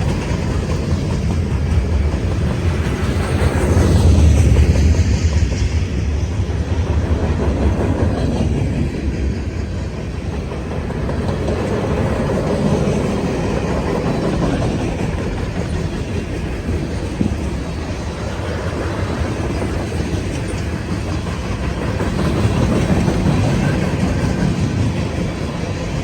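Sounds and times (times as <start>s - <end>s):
freight train rumbling past: 0.0s - 26.0s
wheels clacking over rail joints: 0.0s - 26.0s.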